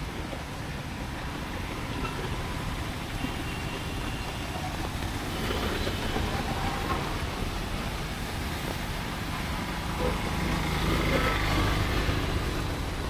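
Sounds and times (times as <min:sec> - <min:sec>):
rain traffic wash: 0:00.0 - 0:13.0
vehicle engines running: 0:00.0 - 0:13.0.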